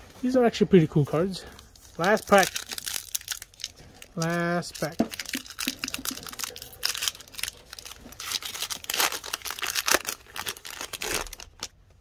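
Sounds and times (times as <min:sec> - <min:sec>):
card pack wrapper tearing: 0:02.0 - 0:11.7.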